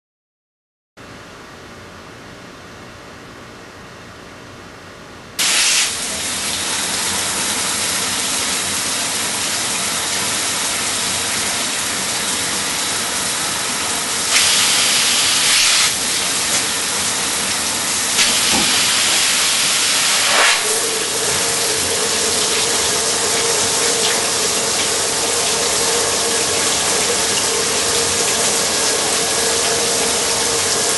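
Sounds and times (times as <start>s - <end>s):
shower head spraying water: 5.4s - 30.9s.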